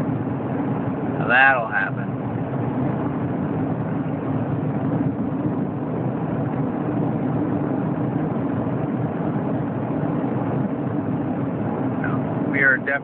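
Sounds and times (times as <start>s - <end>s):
car cabin road and engine drone: 0.0s - 13.0s.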